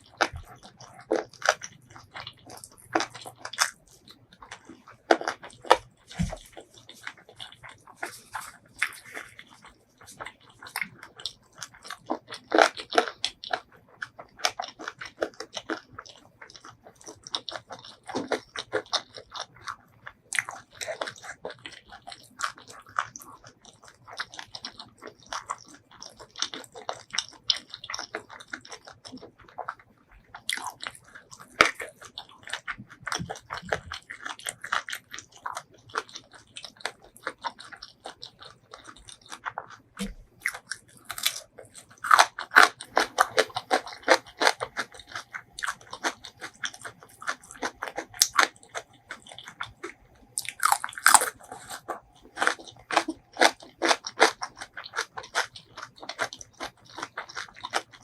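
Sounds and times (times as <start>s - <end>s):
crunching bites and chewing: 0.0s - 58.0s.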